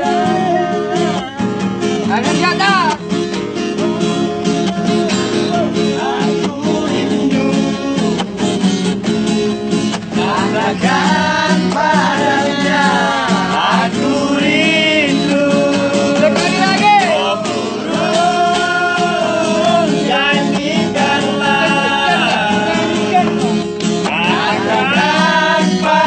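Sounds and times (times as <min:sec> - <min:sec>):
men singing in high voices: 0:00.0 - 0:02.1, 0:03.5 - 0:26.0
acoustic guitar: 0:00.0 - 0:26.0.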